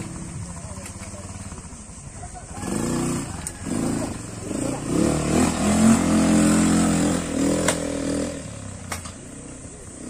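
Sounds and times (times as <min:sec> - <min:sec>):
quad bike engine under throttle: 0:00.0 - 0:10.0.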